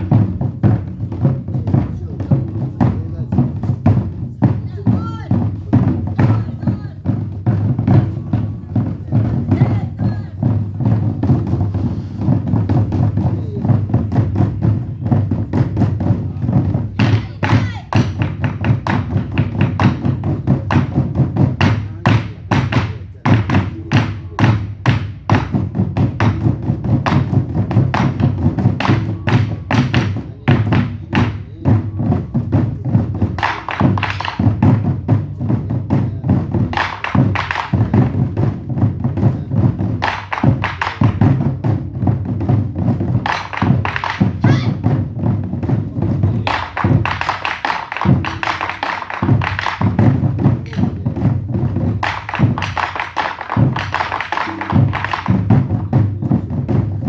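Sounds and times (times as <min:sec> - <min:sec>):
large drums beaten: 0:00.0 - 0:57.0.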